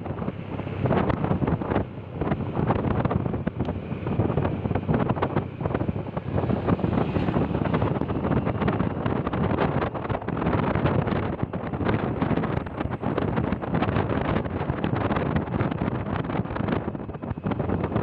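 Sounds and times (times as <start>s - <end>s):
low rumble: 0.0s - 18.0s
wind buffeting microphone: 0.0s - 18.0s.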